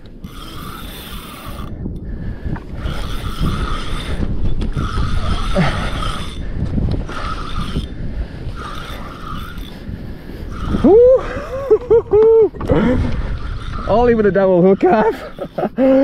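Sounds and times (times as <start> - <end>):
fishing reel gears whirring: 0.0 - 16.0.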